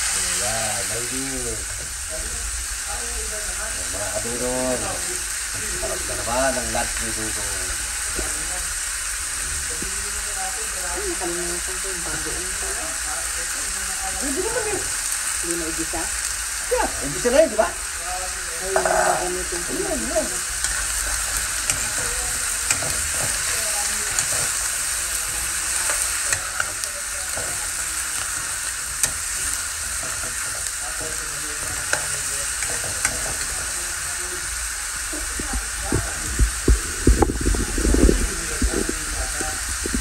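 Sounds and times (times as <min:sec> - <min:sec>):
food sizzling in a wok: 0:00.0 - 0:40.0.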